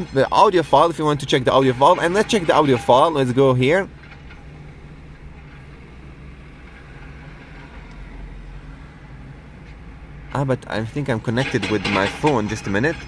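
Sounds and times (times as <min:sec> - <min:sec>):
low hum in car cabin: 0:00.0 - 0:13.0.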